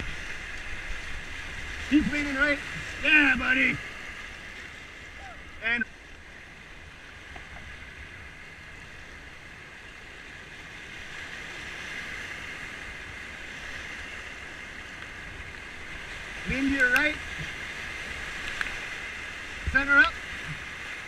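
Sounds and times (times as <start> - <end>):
whitewater rushing in river rapid: 0.0 - 21.0.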